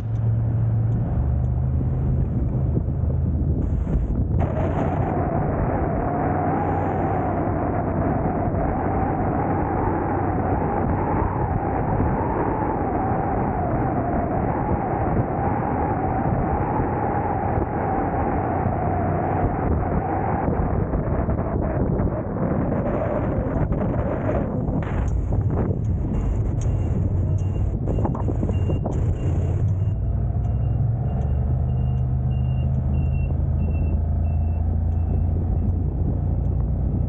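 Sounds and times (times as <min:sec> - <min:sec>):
road and wind noise: 0:00.0 - 0:37.0
wavering vehicle whine: 0:00.0 - 0:37.0.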